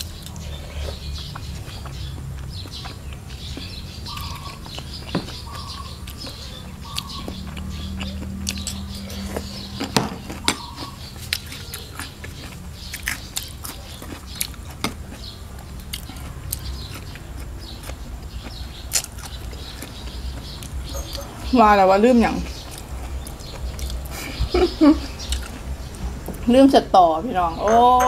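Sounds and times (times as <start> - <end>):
wet chewing with mouth clicks: 0.0 - 21.5, 22.4 - 24.3, 25.0 - 25.7
birds chirping: 0.0 - 28.0.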